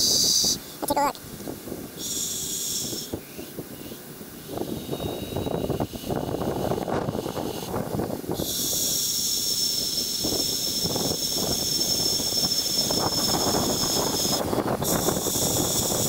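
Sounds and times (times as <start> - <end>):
steady high hiss: 0.0 - 16.0
wind gusting through trees: 0.0 - 16.0.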